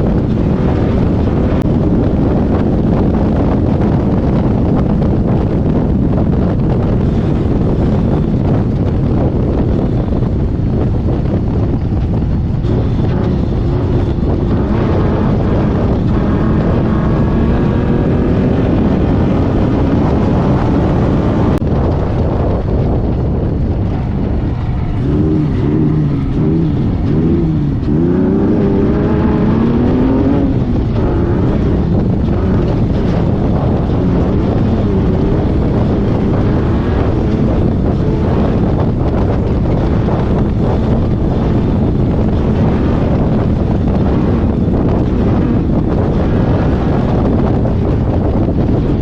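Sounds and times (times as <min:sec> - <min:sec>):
buggy engine running hard: 0:00.0 - 0:49.0
wind and road noise: 0:00.0 - 0:49.0.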